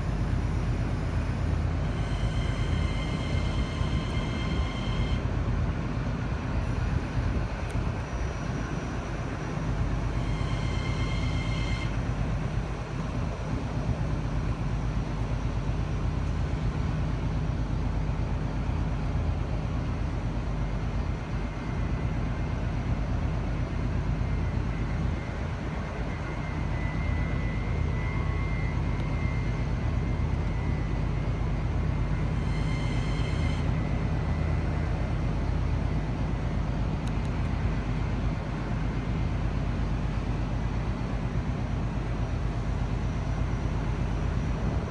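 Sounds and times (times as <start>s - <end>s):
electric train hum and rumble: 0.0s - 44.9s.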